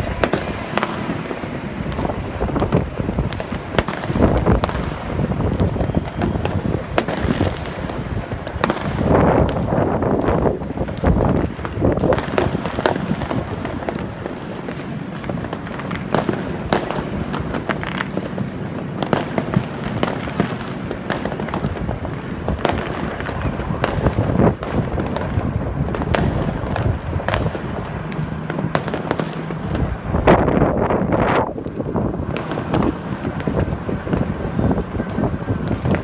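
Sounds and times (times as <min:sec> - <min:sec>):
fireworks bangs and crackles: 0:00.0 - 0:36.0.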